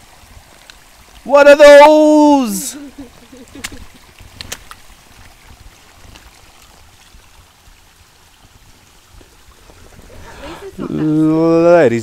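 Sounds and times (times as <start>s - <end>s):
water running over rock: 0.0s - 12.0s.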